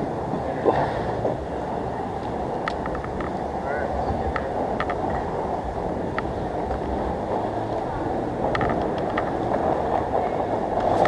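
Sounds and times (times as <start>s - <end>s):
skate wheels rolling on asphalt: 0.0s - 11.0s.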